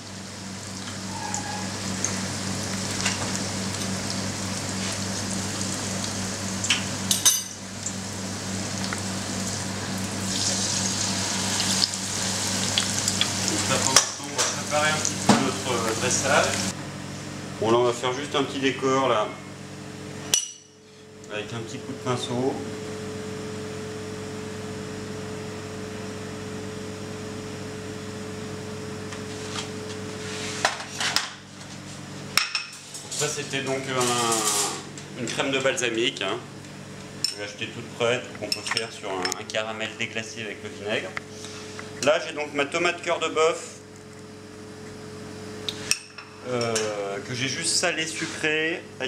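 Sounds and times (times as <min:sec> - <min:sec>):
low kitchen hum and hiss: 0:00.0 - 0:49.0.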